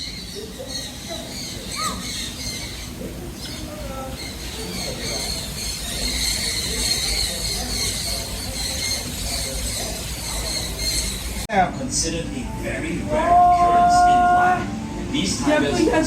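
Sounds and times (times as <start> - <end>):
birds chirping: 0.0 - 16.0
murmur of voices: 0.0 - 16.0.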